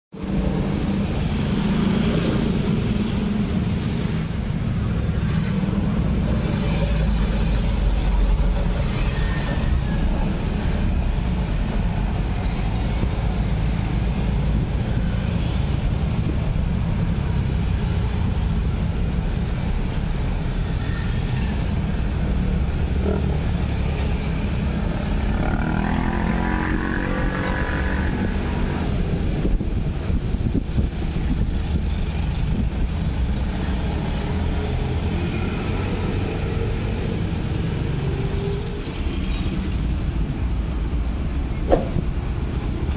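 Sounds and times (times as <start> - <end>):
street traffic: 0.1 - 42.9.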